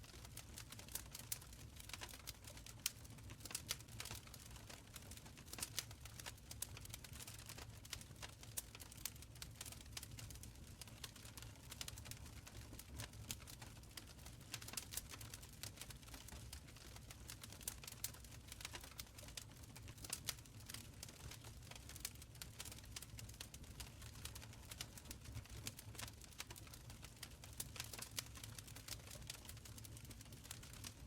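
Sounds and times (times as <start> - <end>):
wood fire crackling and popping: 0.0 - 31.0
low rumble of flames: 0.1 - 31.0.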